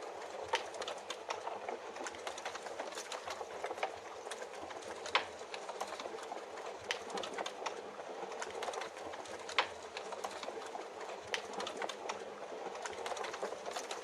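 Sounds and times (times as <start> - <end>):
wood fire crackling: 0.3 - 14.0.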